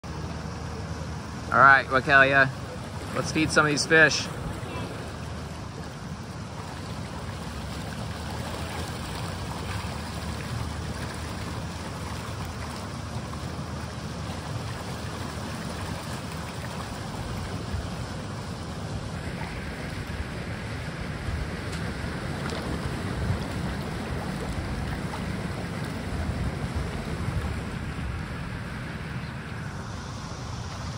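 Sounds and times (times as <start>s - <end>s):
running water rushing: 0.0s - 30.9s
wind buffeting microphone: 4.3s - 30.9s.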